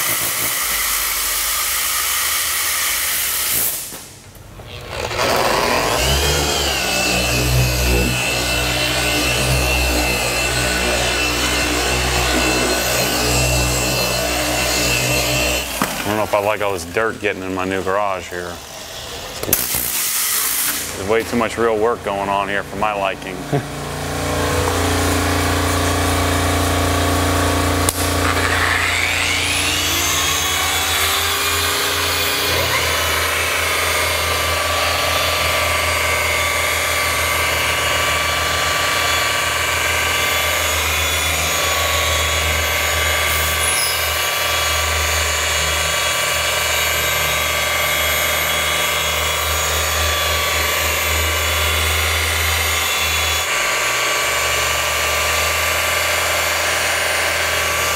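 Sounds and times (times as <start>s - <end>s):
machine polisher running: 0.0s - 57.9s.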